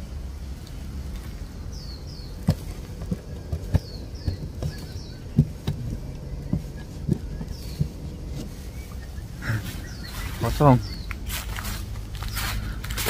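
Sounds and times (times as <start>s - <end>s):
small bird chirping: 0.6s - 13.0s.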